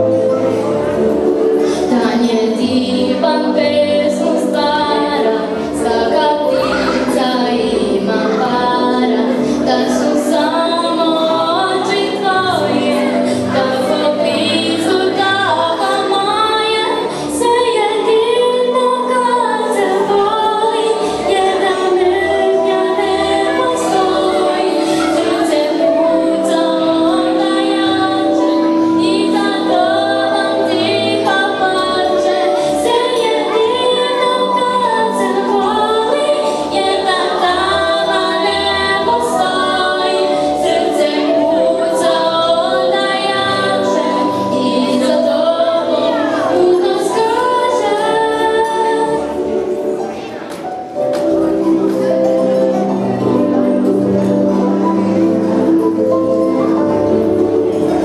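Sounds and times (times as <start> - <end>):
choir singing: 0.0 - 50.3
children singing: 0.0 - 58.0.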